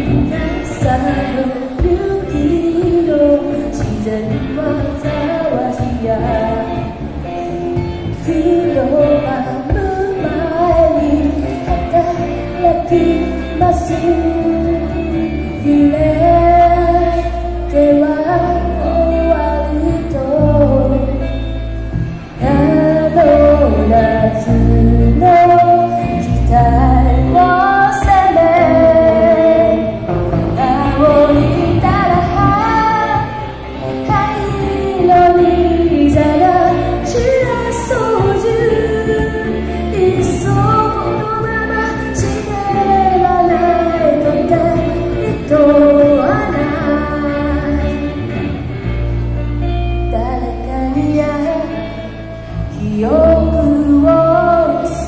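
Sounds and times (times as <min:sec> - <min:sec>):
woman singing: 0:00.0 - 0:21.8, 0:22.4 - 0:48.6, 0:49.6 - 0:55.0
live band playing: 0:00.0 - 0:55.0.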